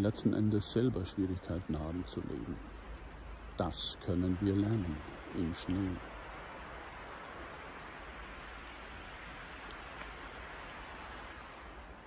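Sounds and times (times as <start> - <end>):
snow pattering on branches: 0.0 - 12.0.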